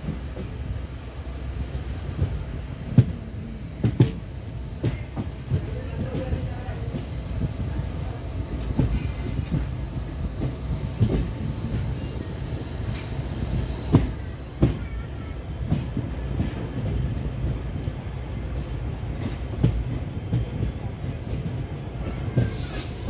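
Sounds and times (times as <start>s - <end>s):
train clanks and knocks: 0.0s - 23.0s
train wheels rumbling on rail: 0.0s - 23.0s.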